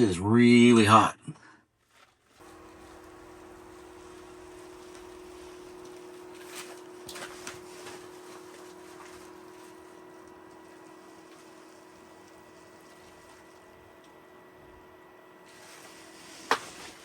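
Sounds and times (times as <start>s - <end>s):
fan humming: 1.7s - 17.0s
heater hissing: 2.4s - 17.0s.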